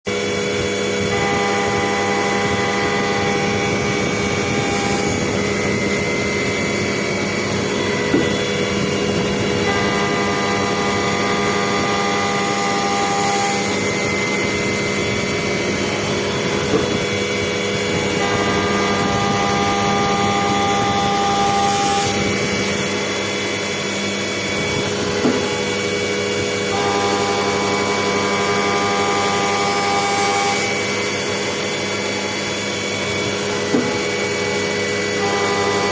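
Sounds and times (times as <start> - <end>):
higher cutter tones: 0.1 - 35.9
milling machine whine: 0.1 - 35.9.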